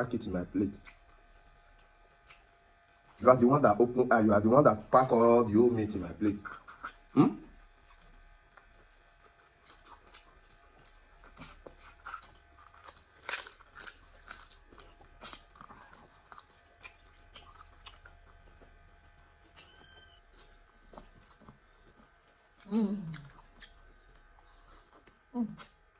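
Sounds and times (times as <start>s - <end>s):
person chewing with mouth smacks: 0.7s - 3.2s, 6.3s - 25.9s.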